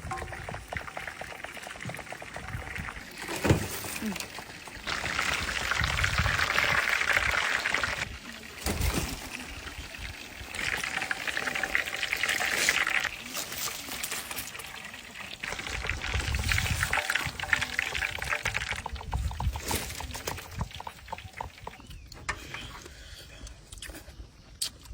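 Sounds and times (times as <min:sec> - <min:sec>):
hot oil sizzling and crackling: 0:00.0 - 0:22.6.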